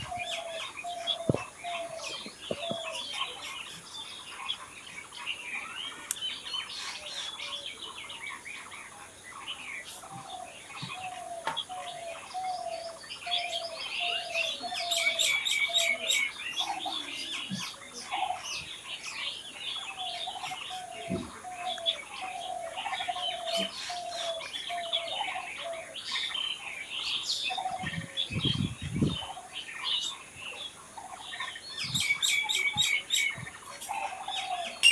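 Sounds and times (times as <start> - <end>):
songbirds chirping and twittering: 0.0 - 34.9.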